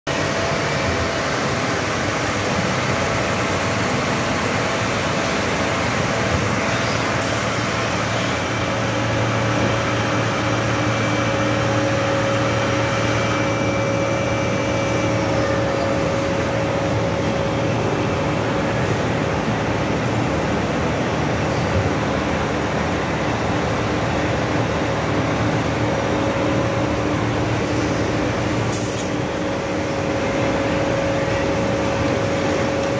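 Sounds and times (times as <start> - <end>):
industrial machinery hum: 0.1 - 32.9.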